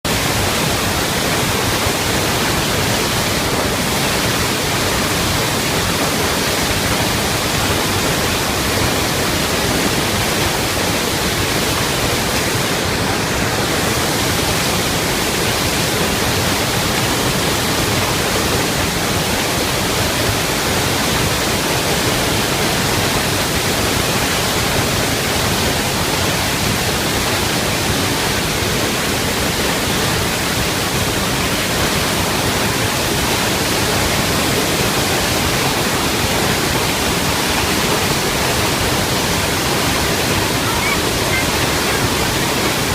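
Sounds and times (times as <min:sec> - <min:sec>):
waterfall thundering: 0:00.0 - 0:42.9.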